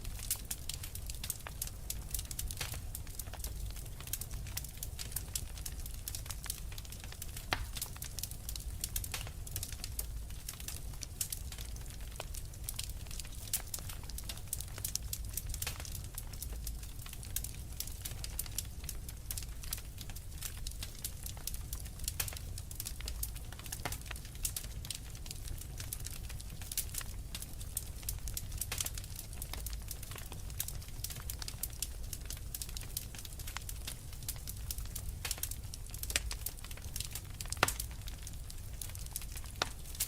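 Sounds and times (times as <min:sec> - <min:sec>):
low steady fire rumble: 0:00.0 - 0:40.0
wood fire crackling and popping: 0:00.0 - 0:40.0.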